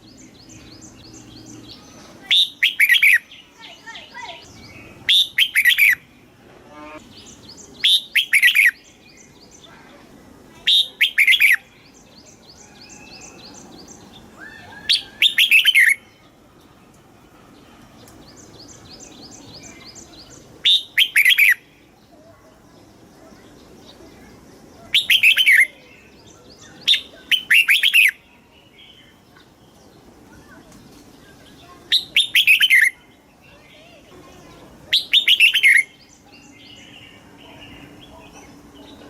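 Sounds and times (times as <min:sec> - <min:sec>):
bird singing clear phrases: 0:00.0 - 0:39.0.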